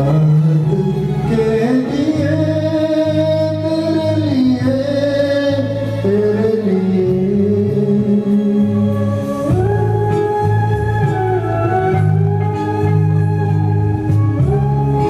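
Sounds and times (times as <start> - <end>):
man singing into a microphone: 0.0 - 12.6
amplified backing music: 0.0 - 15.0.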